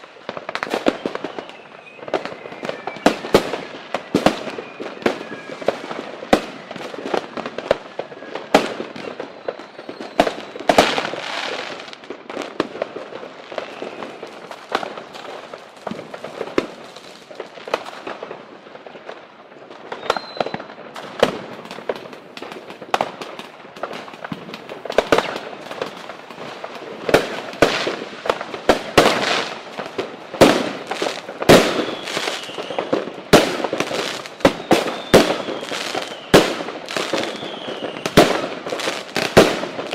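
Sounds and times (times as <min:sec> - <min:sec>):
faint firework whistles: 0:00.0 - 0:39.9
fireworks bangs and crackles: 0:00.0 - 0:39.9.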